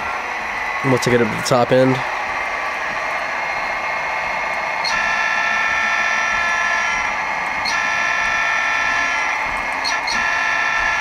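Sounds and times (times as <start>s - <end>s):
model train diesel engine sound: 0.0s - 11.0s.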